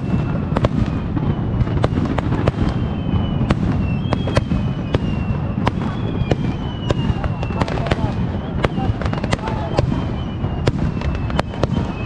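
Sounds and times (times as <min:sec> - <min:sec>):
falling high whistles: 0:00.0 - 0:12.0
fireworks bangs and crackles: 0:00.0 - 0:12.0.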